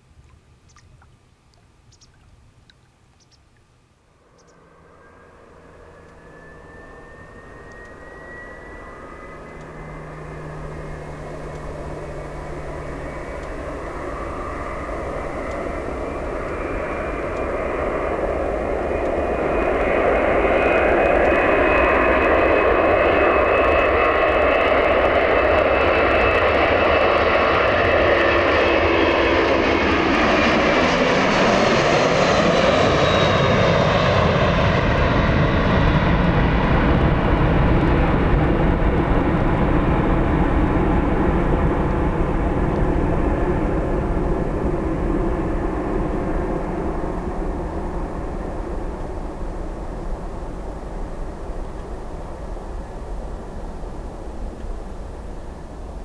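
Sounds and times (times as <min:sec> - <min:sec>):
deep jet rumble: 0:04.1 - 0:56.0
jet engines whining: 0:04.2 - 0:56.0.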